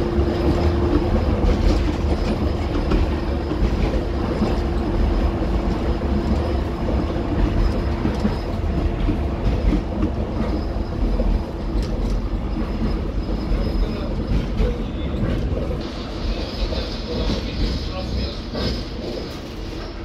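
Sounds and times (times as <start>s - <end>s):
tram wheels rumbling on rail: 0.0s - 20.0s.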